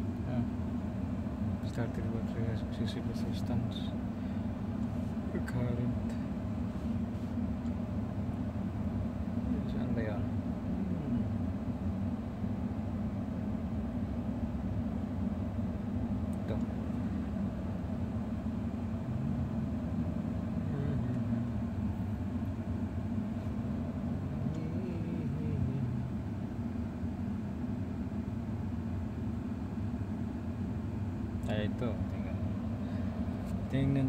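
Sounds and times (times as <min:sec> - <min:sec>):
car engine idling hum: 0:00.0 - 0:34.0.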